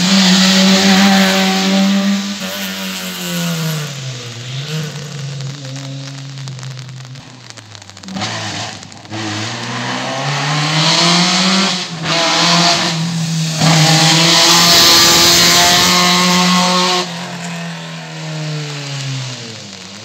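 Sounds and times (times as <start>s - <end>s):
race car engine accelerating: 0.0s - 7.1s, 8.0s - 20.0s
tyres hissing on wet road: 0.0s - 20.0s.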